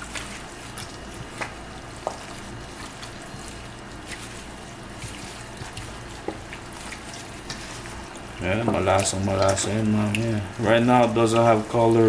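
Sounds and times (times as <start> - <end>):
steady low hum: 0.0 - 12.0
wet squelches of hand mixing: 0.0 - 12.0.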